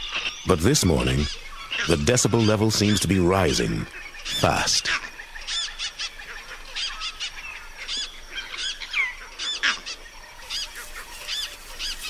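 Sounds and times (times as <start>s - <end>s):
birds giving alarm calls: 0.0s - 12.0s.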